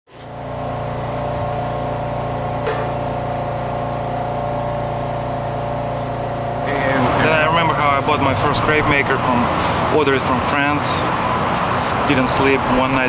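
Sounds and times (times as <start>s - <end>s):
mechanical hum with tones: 0.1s - 13.0s.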